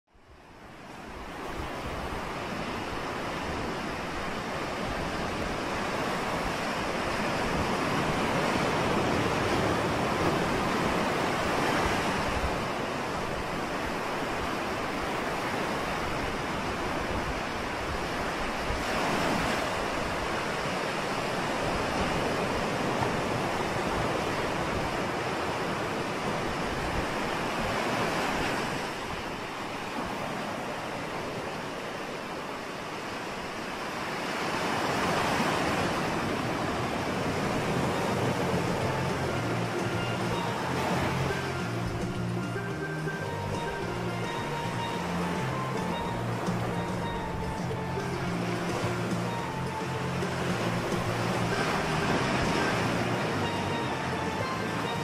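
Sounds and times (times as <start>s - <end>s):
ocean surf breaking on beach: 0.2s - 55.0s.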